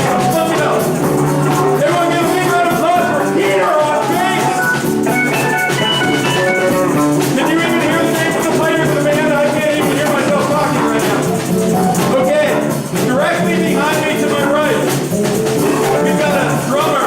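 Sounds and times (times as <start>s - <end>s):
live band playing dance music: 0.0s - 17.0s.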